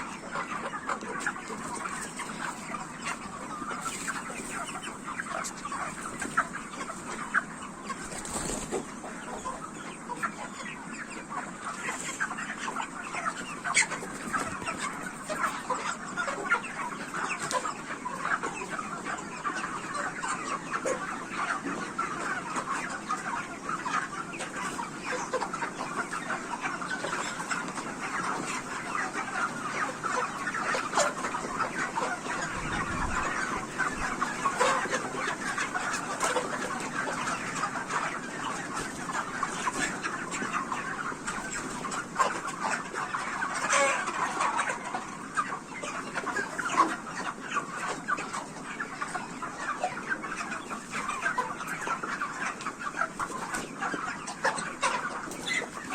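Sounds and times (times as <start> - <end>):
flock of chickens clucking: 0.0 - 55.9
sharp chicken calls: 0.0 - 55.9.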